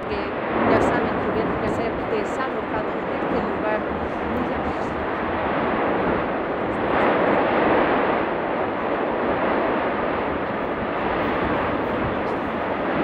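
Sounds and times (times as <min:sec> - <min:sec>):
volcano roaring: 0:00.0 - 0:13.0.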